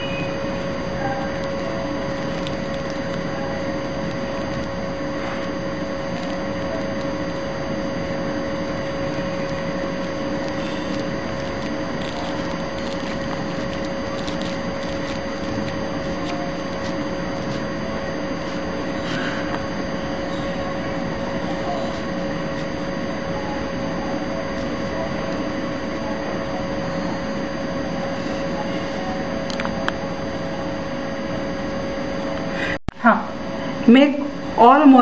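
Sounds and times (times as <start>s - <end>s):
constant whining tone: 0.0s - 35.0s
mechanical hum and hiss: 0.0s - 35.0s.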